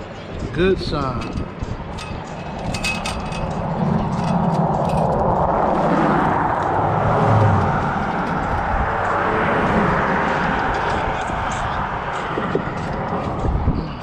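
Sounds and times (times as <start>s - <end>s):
low engine hum: 0.0s - 14.0s
road traffic passing: 0.0s - 14.0s.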